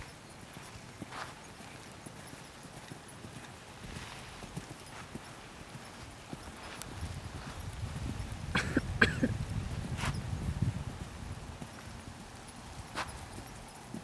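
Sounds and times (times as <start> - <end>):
horse trotting on sand: 0.0 - 14.0.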